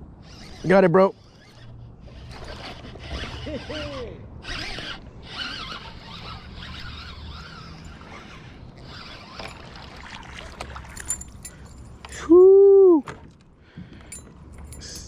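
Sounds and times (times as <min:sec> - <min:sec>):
fishing reel whirring: 0:00.1 - 0:12.3.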